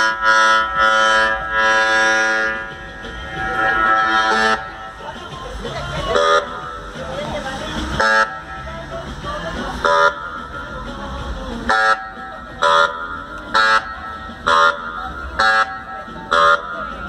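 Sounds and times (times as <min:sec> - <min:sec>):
horn blasts: 0:00.0 - 0:07.1, 0:07.9 - 0:08.8, 0:09.8 - 0:10.8, 0:11.6 - 0:17.0.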